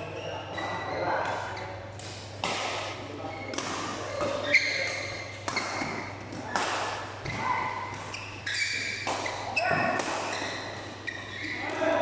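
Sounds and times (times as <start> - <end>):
rackets hitting shuttlecock: 1.2 - 12.0.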